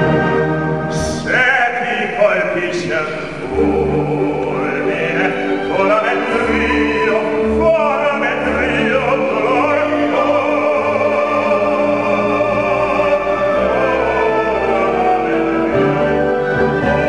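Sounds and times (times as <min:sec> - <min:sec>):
operatic baritone singing: 0:00.0 - 0:17.0
orchestral accompaniment: 0:00.0 - 0:17.0.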